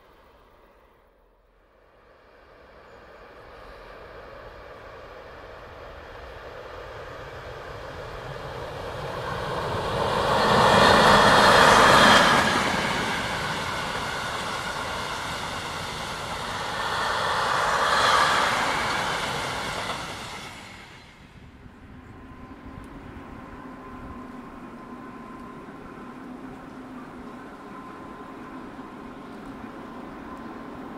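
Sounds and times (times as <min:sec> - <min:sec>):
freight train wheels rolling on rails: 0:02.4 - 0:30.9.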